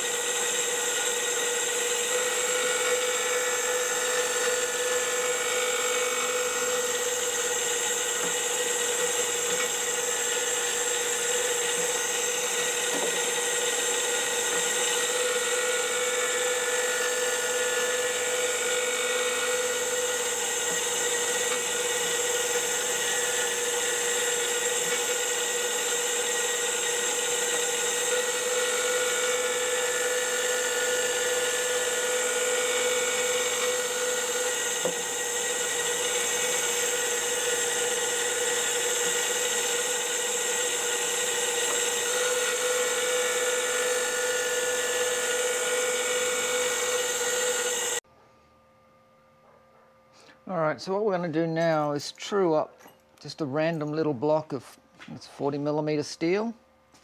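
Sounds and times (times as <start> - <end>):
surface grinder whining: 0.0 - 48.0.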